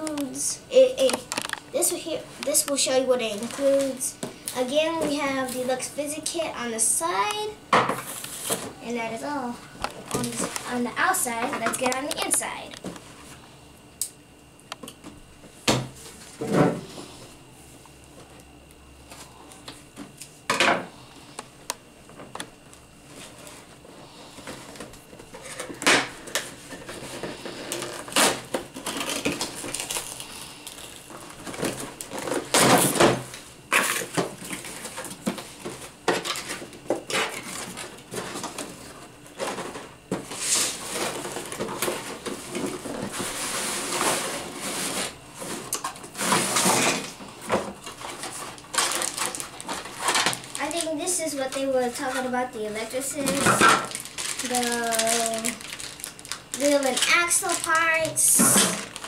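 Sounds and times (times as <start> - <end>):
rustling packaging: 0.0 - 5.9, 7.2 - 13.0, 23.1 - 59.0.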